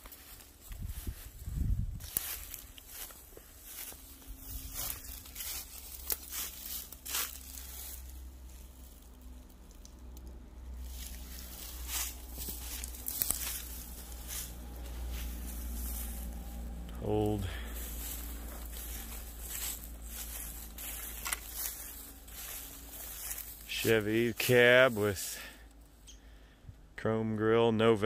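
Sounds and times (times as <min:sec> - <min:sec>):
footsteps through dry grass: 0:00.0 - 0:25.8
low steady rumble: 0:00.0 - 0:28.0.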